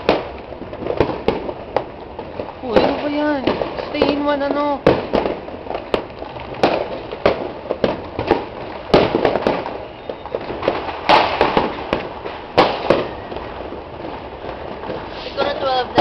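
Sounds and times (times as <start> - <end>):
distant firework popping: 0.0 - 16.0
firework bangs and pops: 0.0 - 16.0.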